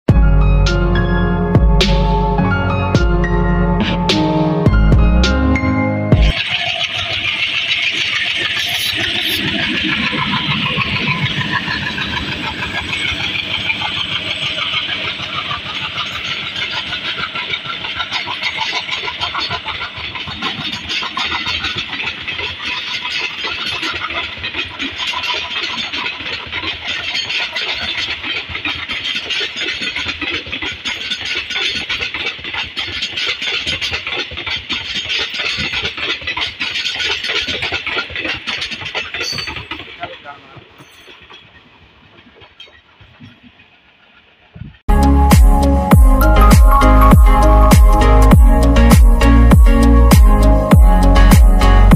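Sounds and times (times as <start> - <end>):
diesel locomotive engine chugging: 0.1 - 51.9.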